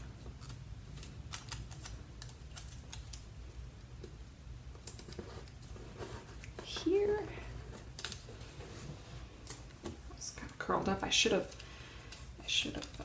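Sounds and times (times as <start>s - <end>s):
fingers handling paper and tape: 0.0s - 13.0s
low steady hum: 0.0s - 13.0s.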